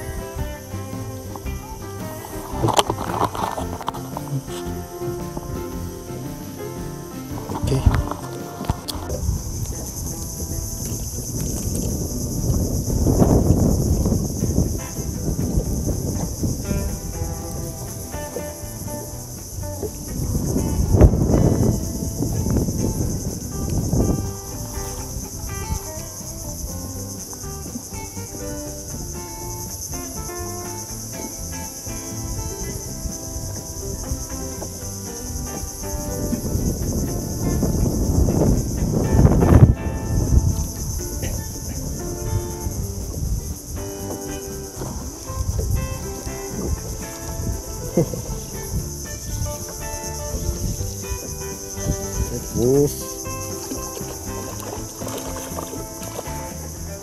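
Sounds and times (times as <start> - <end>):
insects chirping: 0.0 - 57.0
plucked melodic music: 0.0 - 57.0.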